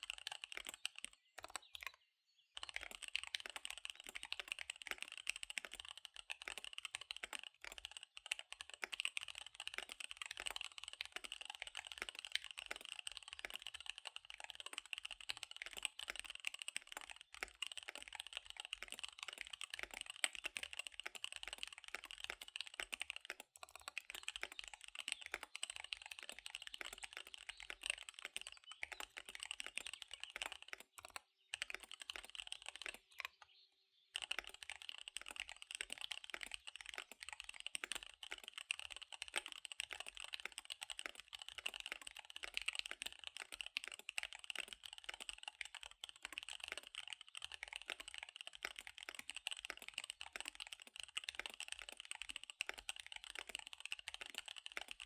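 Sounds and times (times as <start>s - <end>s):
mechanical keyboard typing: 0.0s - 2.0s, 2.6s - 33.5s, 34.1s - 55.0s.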